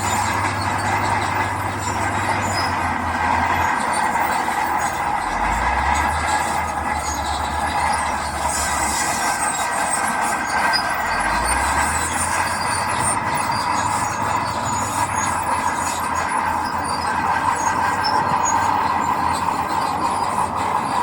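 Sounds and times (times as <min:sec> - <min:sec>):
diesel engine rumbling: 0:00.0 - 0:21.0.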